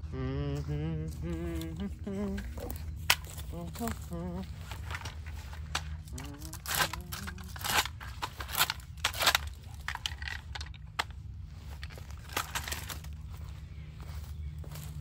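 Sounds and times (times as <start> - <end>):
steady low rumble: 0.0 - 15.0
twigs crackling and snapping: 1.1 - 15.0.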